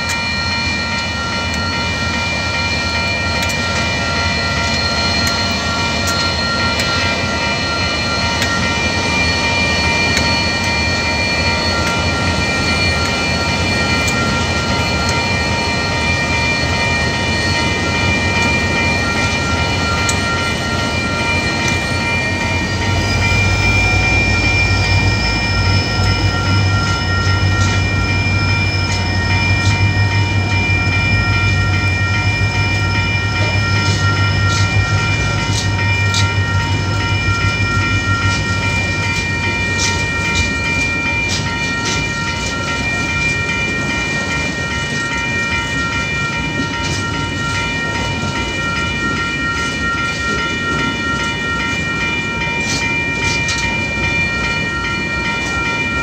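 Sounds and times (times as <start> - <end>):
crossing warning bells ringing: 0.0 - 56.0
diesel freight train rumbling: 0.0 - 56.0
train wheels clicking on rails: 0.0 - 56.0.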